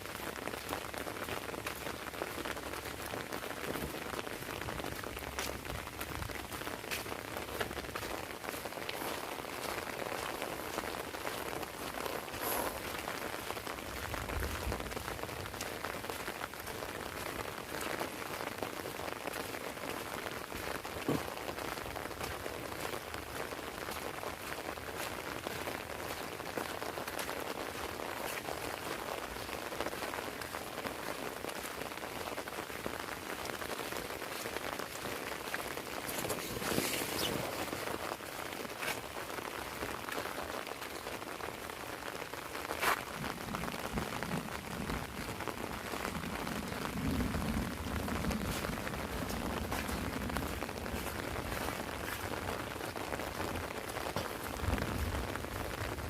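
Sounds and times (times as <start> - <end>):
heavy rain on umbrella: 0.0 - 56.0.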